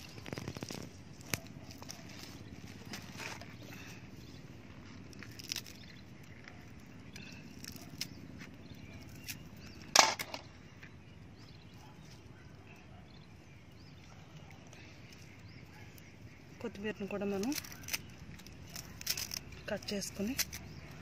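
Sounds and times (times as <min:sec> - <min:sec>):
low outdoor background: 0:00.0 - 0:21.0.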